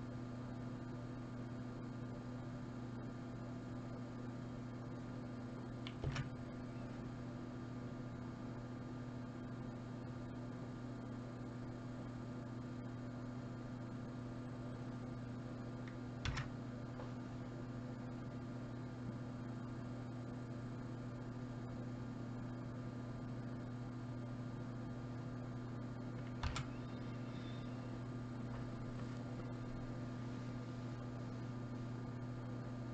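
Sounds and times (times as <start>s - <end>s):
electrical mains hum: 0.0s - 32.9s.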